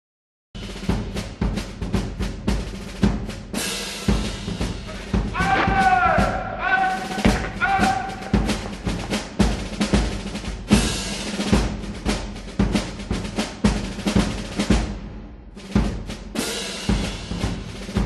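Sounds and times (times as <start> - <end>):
drum kit hits and rolls: 0.6 - 18.0.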